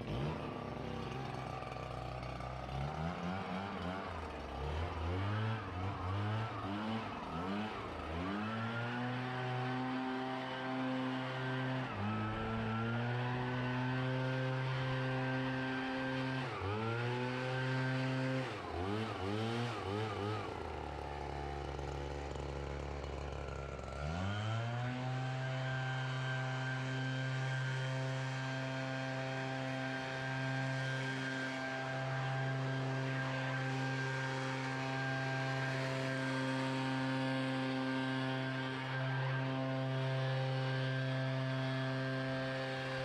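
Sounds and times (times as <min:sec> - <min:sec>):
leaf blower engine revving: 0:00.0 - 0:43.0.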